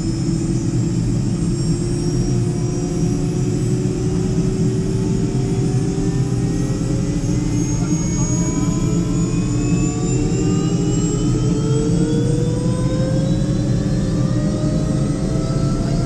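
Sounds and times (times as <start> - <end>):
helicopter engine and rotor: 0.0 - 16.0
rising engine whine: 0.0 - 16.0.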